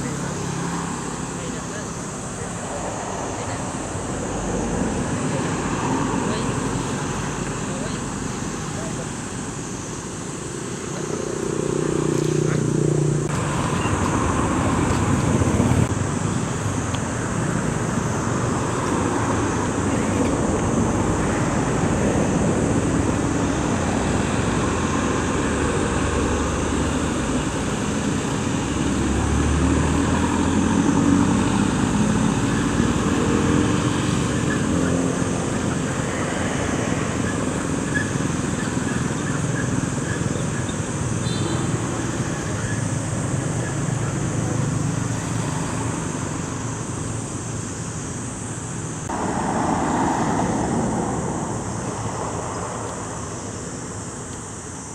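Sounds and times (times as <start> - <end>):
vehicles passing: 0.0 - 54.9.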